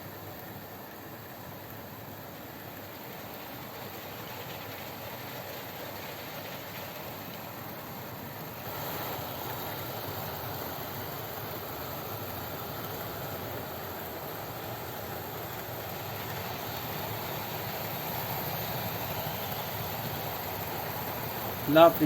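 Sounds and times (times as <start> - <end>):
model train whirring on track: 0.0 - 22.0.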